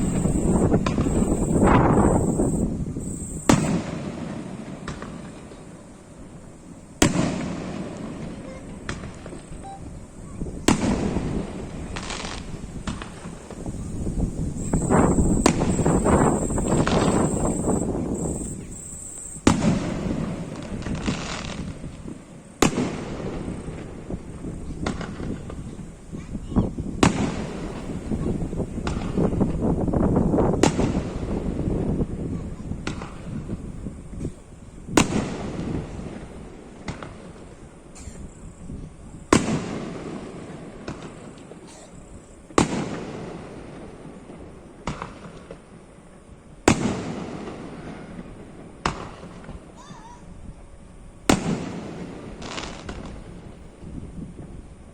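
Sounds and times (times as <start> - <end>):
fireworks bangs: 0.0 - 34.2, 34.9 - 38.0, 39.3 - 45.9, 46.7 - 49.8, 51.3 - 54.5
fireworks crackling: 0.0 - 49.9, 50.8 - 54.9.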